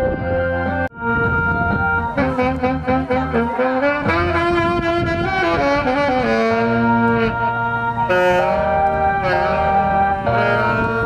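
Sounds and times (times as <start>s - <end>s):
backing track bass notes: 0.0s - 11.0s
tenor saxophone melody: 0.0s - 11.0s.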